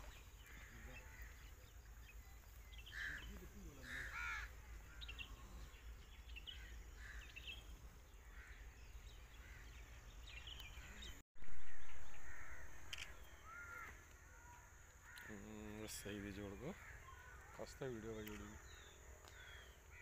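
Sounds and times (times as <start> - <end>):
birds cawing: 0.0 - 20.0.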